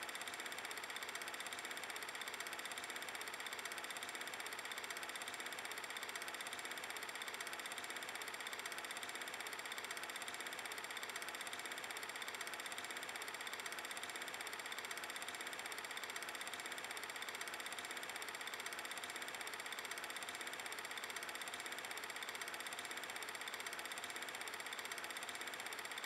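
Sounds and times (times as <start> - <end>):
film projector whirring clatter: 0.0 - 26.0.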